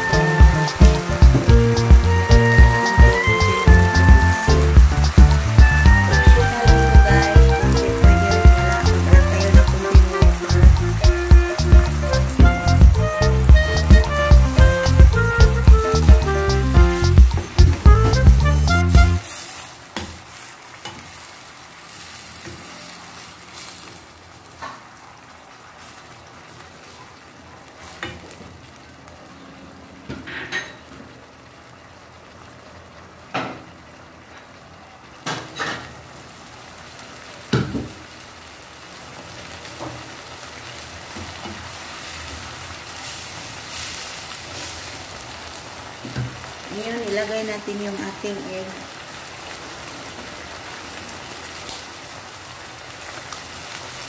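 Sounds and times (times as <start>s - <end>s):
food sizzling in frying pan: 0.0s - 54.0s.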